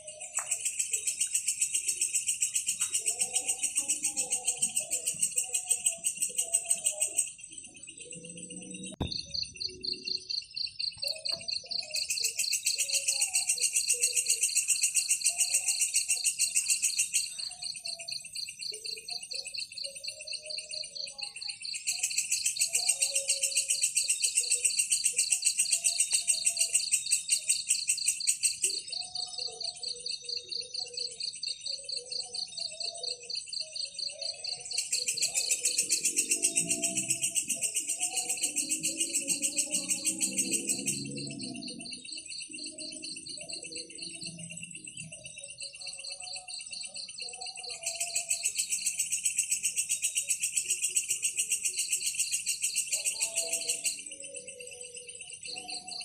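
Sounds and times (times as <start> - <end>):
insects trilling: 0.0 - 56.0
soft bird chirps: 0.0 - 56.0.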